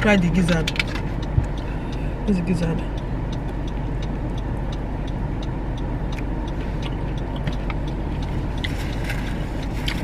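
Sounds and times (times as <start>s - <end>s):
car engine rumble from inside: 0.0s - 10.0s.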